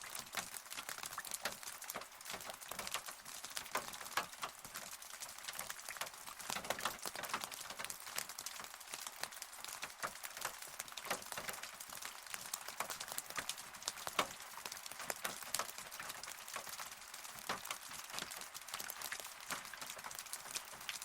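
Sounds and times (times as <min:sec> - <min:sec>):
raindrops pattering on hard surface: 0:00.0 - 0:21.0
soft rain hiss: 0:00.0 - 0:21.0.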